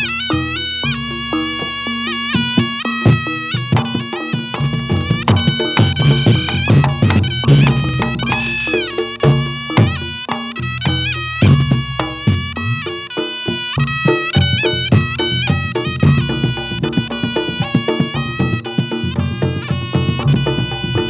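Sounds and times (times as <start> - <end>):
drums and struck percussion: 0.0 - 21.0
reedy shawm melody: 0.0 - 21.0.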